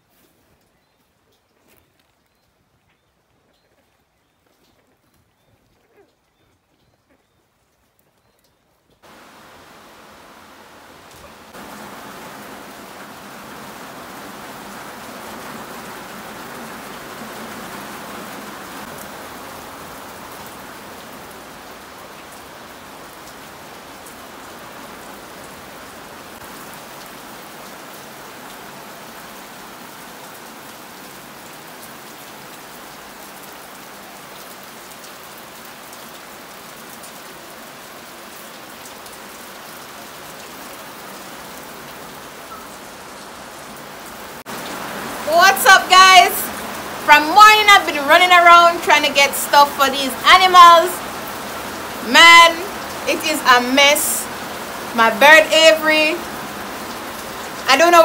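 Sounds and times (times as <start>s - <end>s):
heavy rain falling: 9.0s - 58.0s.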